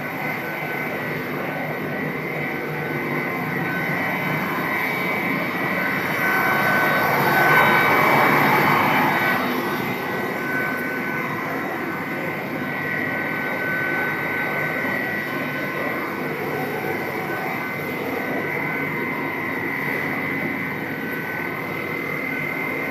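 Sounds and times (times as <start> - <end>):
extrusion machine drone: 0.0 - 22.9
high machine whine: 0.0 - 22.9.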